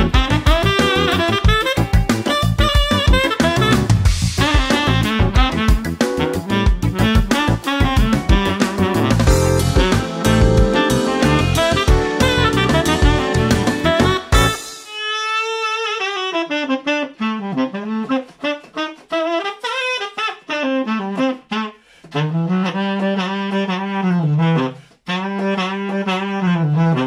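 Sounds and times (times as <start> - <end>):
tenor saxophone playing slowly: 0.0 - 27.0.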